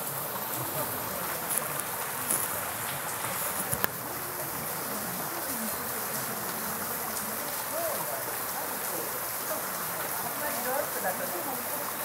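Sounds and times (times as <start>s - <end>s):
river water over rocks: 0.0s - 12.0s.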